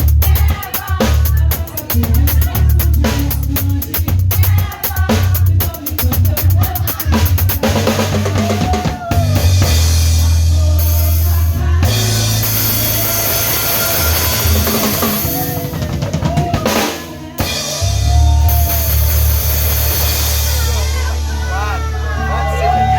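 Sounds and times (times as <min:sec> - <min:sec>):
drum kit playing: 0:00.0 - 0:22.9
recorded song with bass: 0:00.0 - 0:22.9.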